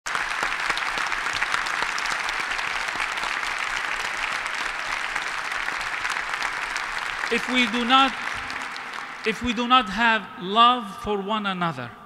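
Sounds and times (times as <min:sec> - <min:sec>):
audience applauding: 0:00.1 - 0:10.1.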